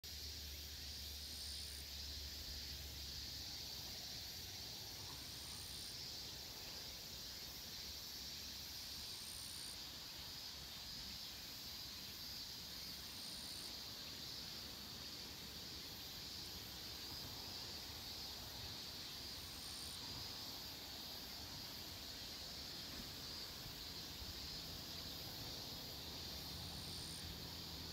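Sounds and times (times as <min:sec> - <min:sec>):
insect chorus: 0:00.0 - 0:27.9.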